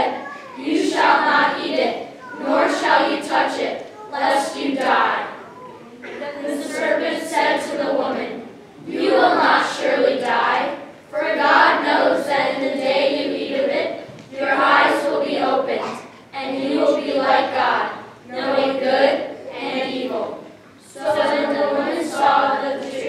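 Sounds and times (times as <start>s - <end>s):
children speaking in unison: 0.0s - 12.6s, 14.8s - 23.0s.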